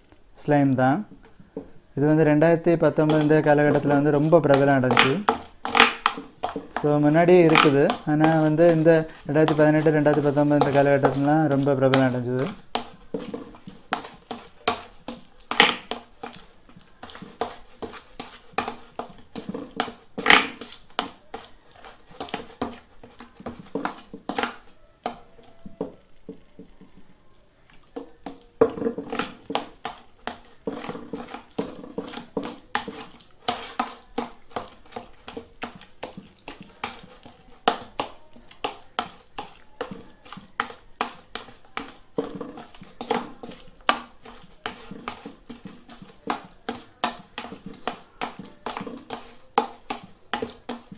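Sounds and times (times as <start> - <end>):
slime squelching: 0.0 - 50.9.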